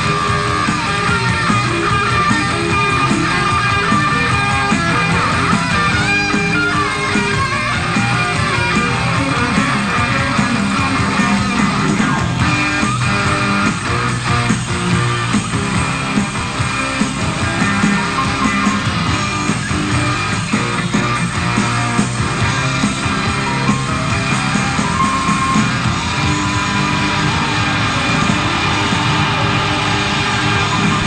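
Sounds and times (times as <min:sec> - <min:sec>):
drums: 0:00.0 - 0:31.0
electric guitars: 0:00.0 - 0:31.0.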